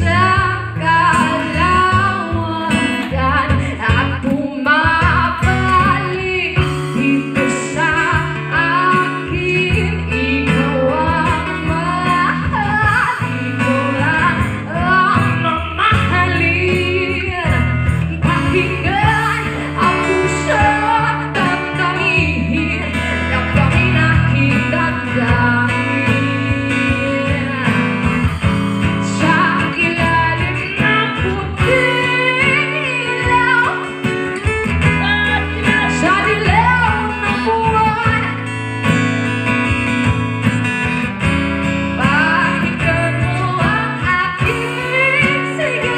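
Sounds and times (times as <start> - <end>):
bass line: 0.0 - 45.9
guitar: 0.0 - 45.9
woman singing into a microphone: 0.0 - 45.9.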